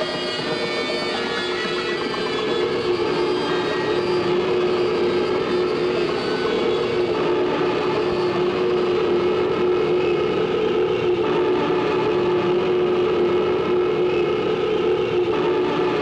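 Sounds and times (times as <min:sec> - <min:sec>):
machine-like electronic drone: 0:00.0 - 0:16.0.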